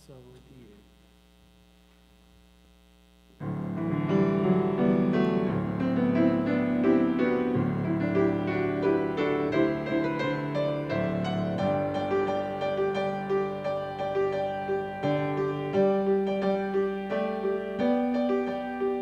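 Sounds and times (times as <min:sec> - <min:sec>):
faint steady hum: 0:00.0 - 0:19.0
solo piano playing: 0:03.4 - 0:19.0.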